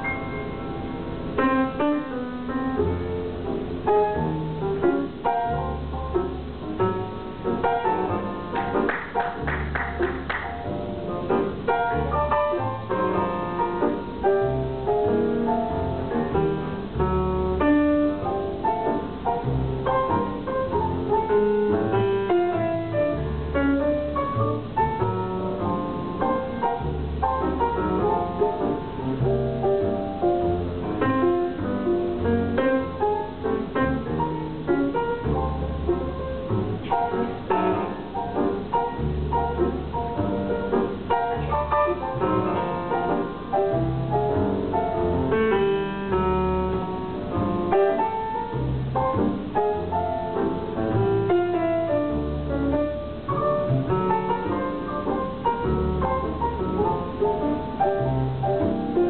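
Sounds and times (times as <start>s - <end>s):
grand piano playing: 0.0s - 59.0s
plucked double bass: 0.0s - 59.0s.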